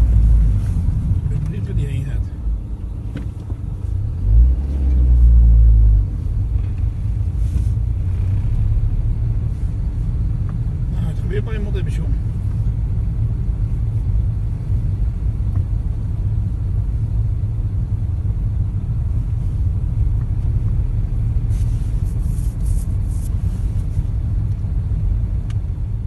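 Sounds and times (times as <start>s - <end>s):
car cabin rumble: 0.0s - 26.0s.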